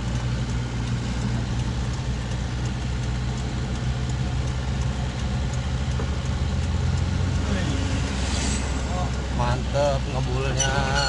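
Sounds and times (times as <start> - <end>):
road noise: 0.0 - 11.0
vehicle engine humming: 0.0 - 11.0.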